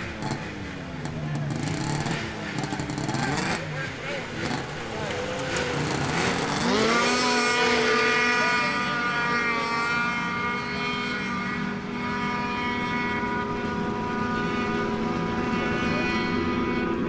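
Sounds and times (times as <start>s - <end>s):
snowmobile engine at high revs: 0.0s - 17.0s.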